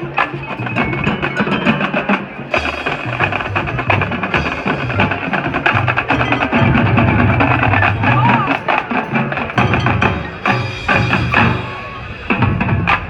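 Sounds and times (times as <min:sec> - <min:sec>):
drums and percussion strikes: 0:00.0 - 0:13.0
marching band playing: 0:00.0 - 0:13.0.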